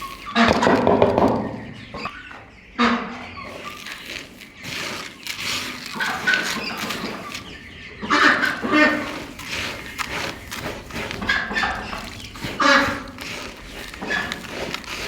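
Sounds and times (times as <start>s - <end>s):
poultry calling: 0.0s - 15.0s.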